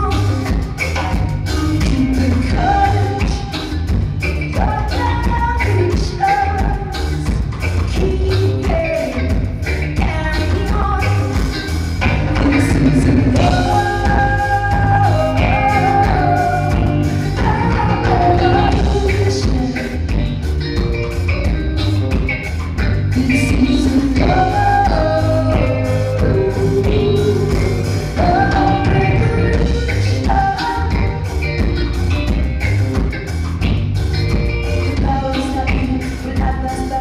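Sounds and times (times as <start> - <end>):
woman singing into a microphone: 0.0 - 20.4, 23.1 - 31.6, 34.5 - 37.0
bass guitar: 0.0 - 37.0
drums with steady beat: 0.0 - 37.0
electric guitar: 0.0 - 37.0.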